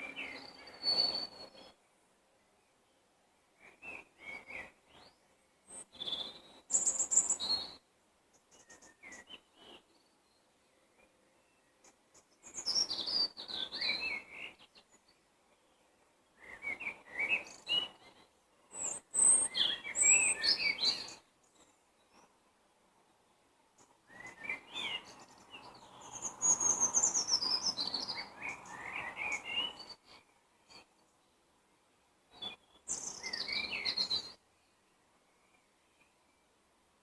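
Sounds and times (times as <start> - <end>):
songbirds chirping and whistling: 0.0 - 2.0, 2.6 - 22.4, 23.1 - 31.4, 32.3 - 36.6.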